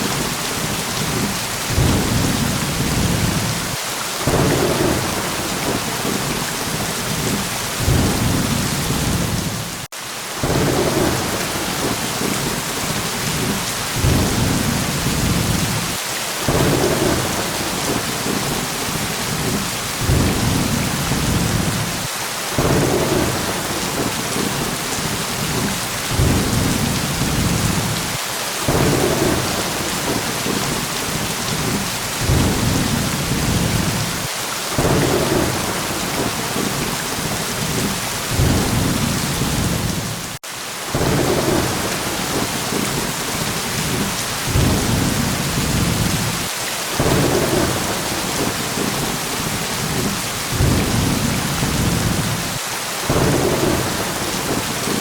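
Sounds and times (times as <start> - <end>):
heavy rain: 0.0 - 55.0
thunder rumbling: 0.6 - 55.0.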